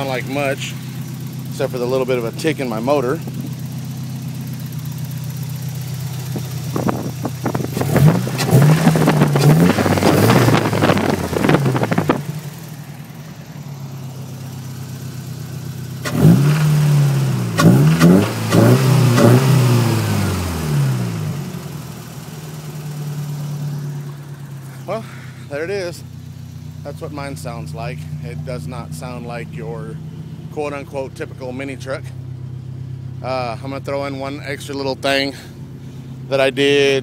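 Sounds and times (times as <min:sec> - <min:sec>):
pickup engine idling and revving: 0:00.0 - 0:37.0.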